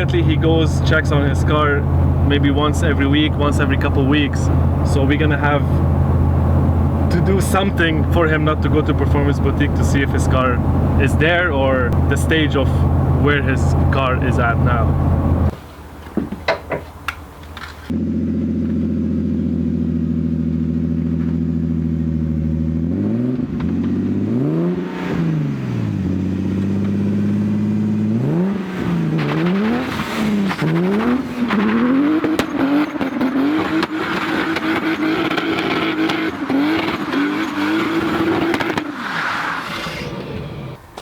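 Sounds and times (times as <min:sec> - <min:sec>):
car engine revving: 0:00.0 - 0:15.6, 0:17.8 - 0:40.9.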